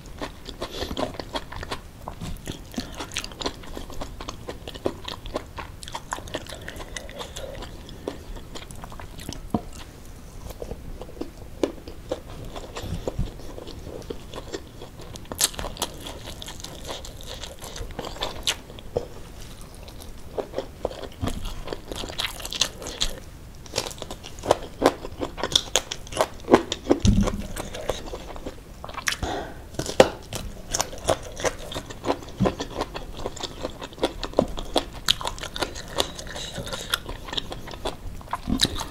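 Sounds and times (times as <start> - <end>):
chewing and crunching: 0.0 - 38.9.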